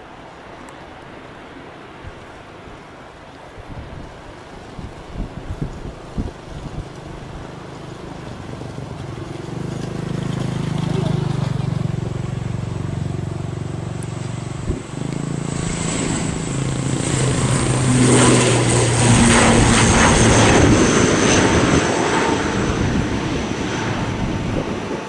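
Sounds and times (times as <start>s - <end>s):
turboprop engines at takeoff: 2.8s - 25.0s.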